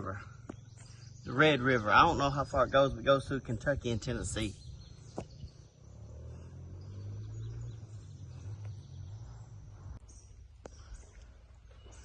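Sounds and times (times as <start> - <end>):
faint birds: 0.0 - 12.0
faint insects: 0.0 - 12.0.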